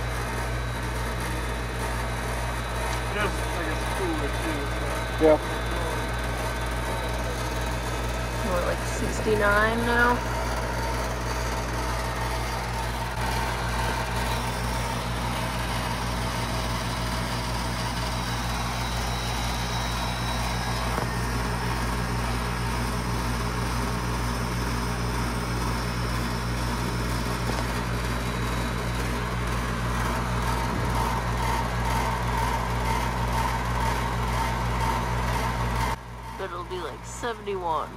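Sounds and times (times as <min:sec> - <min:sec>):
compressor hum: 0:00.0 - 0:37.9
condenser fan rushing: 0:00.0 - 0:37.9.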